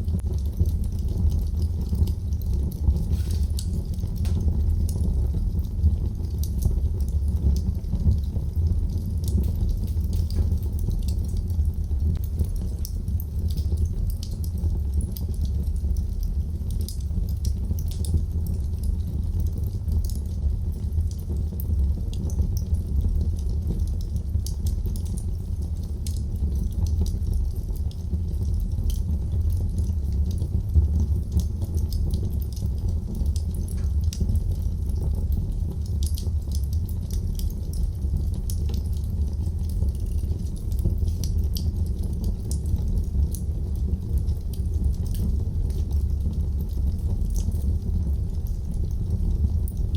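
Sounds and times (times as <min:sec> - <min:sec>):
low fire rumble: 0:00.0 - 0:49.9
wood fire crackling: 0:00.0 - 0:49.9.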